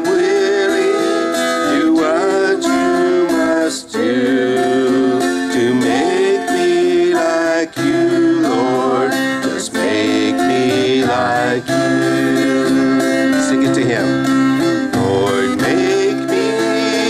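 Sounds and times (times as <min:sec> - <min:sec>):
person singing worship song: 0:00.0 - 0:14.0, 0:14.6 - 0:17.0
acoustic guitar: 0:00.0 - 0:17.0.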